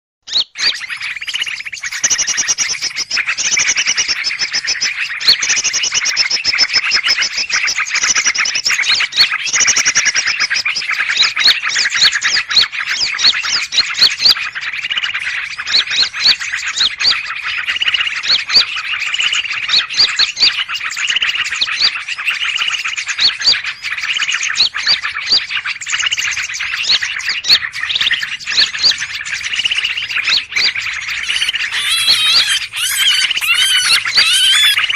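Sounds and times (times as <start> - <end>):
many small birds chirping: 0.3 - 34.9.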